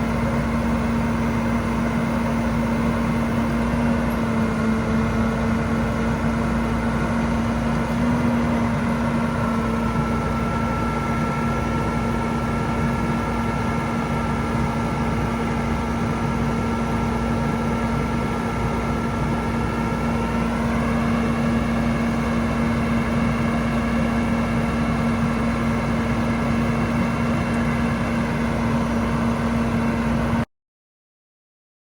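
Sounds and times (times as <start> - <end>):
diesel truck engine idling: 0.0 - 30.4.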